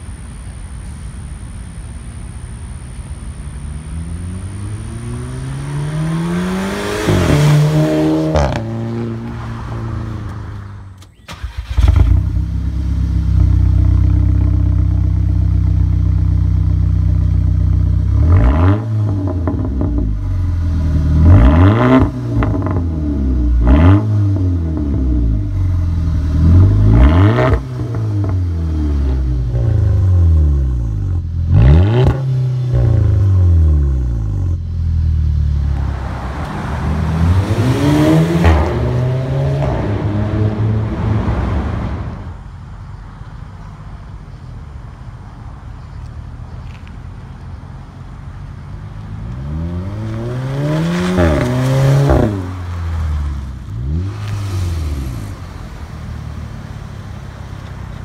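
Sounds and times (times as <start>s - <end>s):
car engine accelerating and revving: 3.6s - 42.4s, 48.9s - 58.0s.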